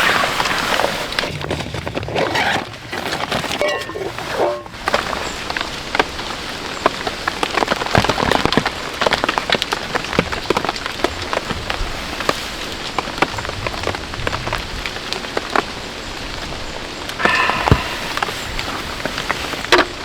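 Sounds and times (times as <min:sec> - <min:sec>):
rain falling: 0:03.3 - 0:20.0.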